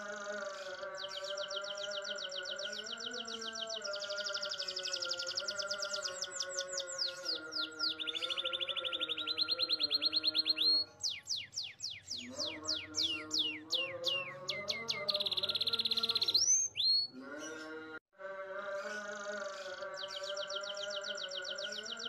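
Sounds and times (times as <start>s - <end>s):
canary singing trills: 0.0s - 17.9s, 18.8s - 22.0s.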